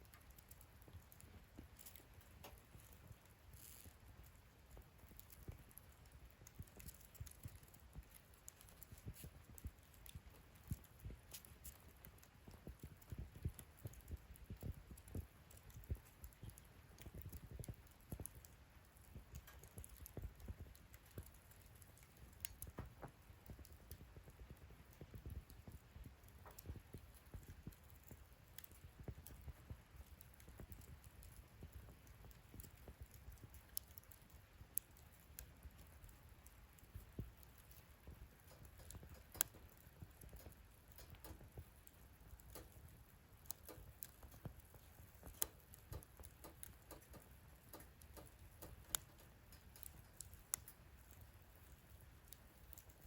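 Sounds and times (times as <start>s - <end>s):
fire pops and snaps: 0.0s - 53.0s
low rumble of flames: 0.0s - 53.0s
wood fire crackling: 0.0s - 53.0s.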